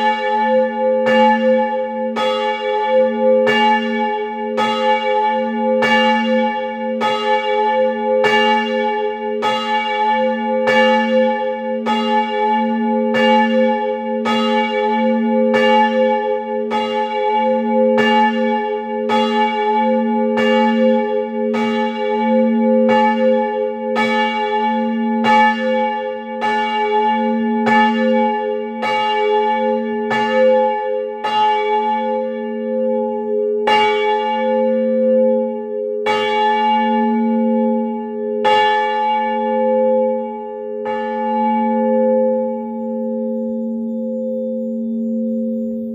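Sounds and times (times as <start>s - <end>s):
church bell ringing: 0.0s - 45.9s.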